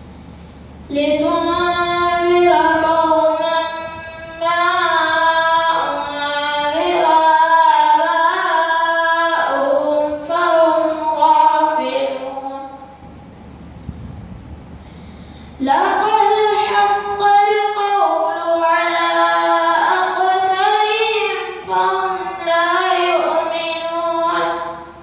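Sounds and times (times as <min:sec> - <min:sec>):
boy chanting recitation: 0:00.9 - 0:13.0, 0:15.2 - 0:25.0.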